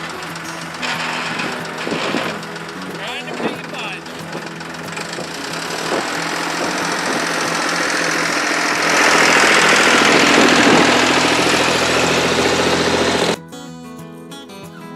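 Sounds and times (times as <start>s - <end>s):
machinery engine running: 0.0s - 13.4s.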